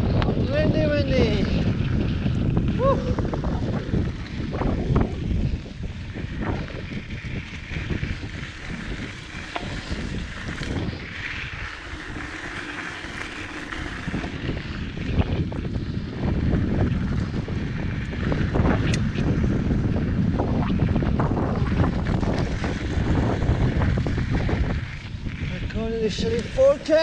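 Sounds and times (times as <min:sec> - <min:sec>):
mountain bike rattling on dirt trail: 0:00.0 - 0:27.0
wind rushing over microphone: 0:00.0 - 0:27.0.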